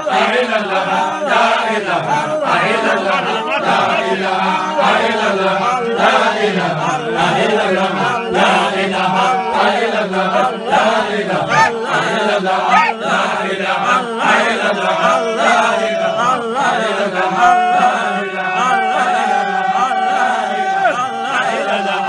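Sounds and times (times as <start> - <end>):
men chanting together: 0.0 - 22.0.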